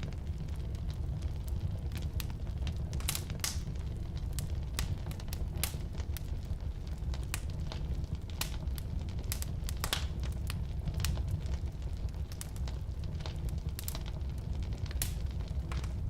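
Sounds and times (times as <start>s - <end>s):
fire flames rumbling: 0.0s - 16.0s
wood crackling and popping: 0.0s - 16.0s.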